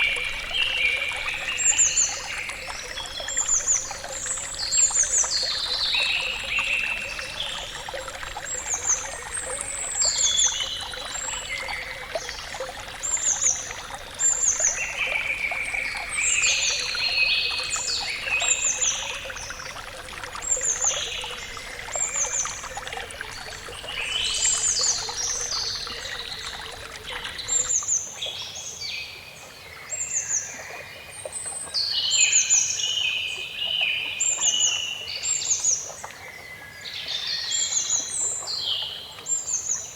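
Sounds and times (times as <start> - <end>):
flowing water: 0.0 - 39.9
songbirds singing: 0.0 - 39.9.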